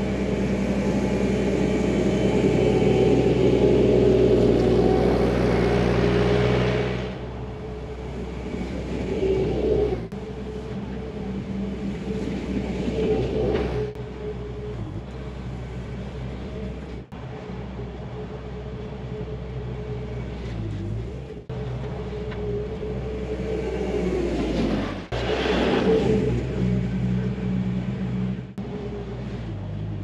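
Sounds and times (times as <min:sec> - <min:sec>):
diesel engine droning with whine: 0:00.0 - 0:30.0.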